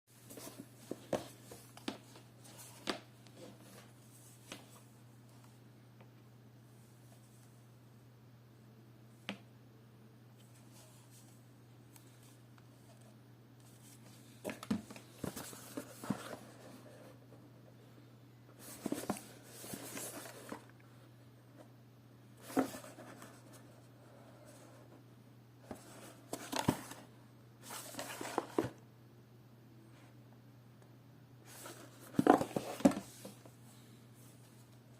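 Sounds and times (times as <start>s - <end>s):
faint low hum: 0.1s - 34.9s.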